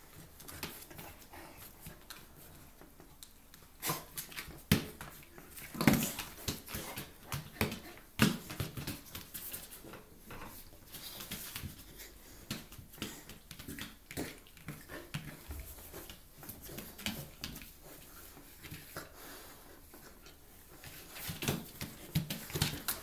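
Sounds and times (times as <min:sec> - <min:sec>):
dogs play-fighting and scuffling: 0:00.0 - 0:23.0.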